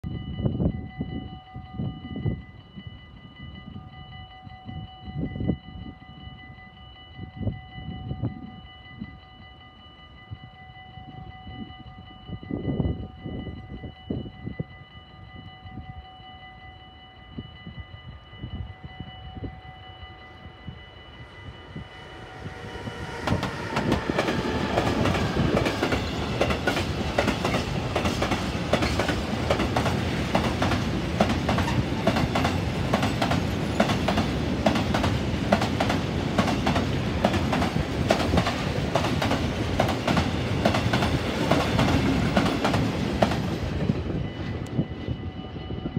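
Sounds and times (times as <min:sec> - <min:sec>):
freight train passing: 0:00.1 - 0:45.9.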